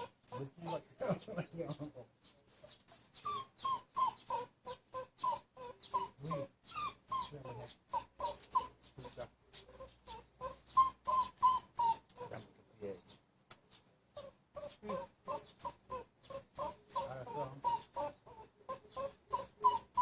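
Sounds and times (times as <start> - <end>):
dog whimpering: 0.0 - 1.2, 2.5 - 12.4, 14.2 - 20.0.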